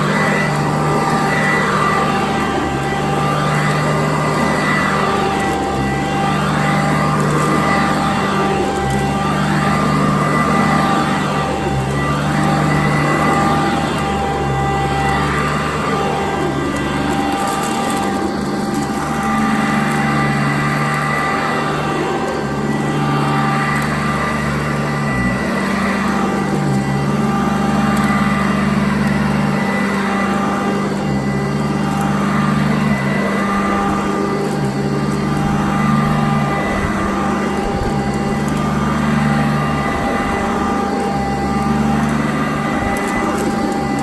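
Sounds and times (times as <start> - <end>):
vacuum cleaner running: 0.0 - 44.0.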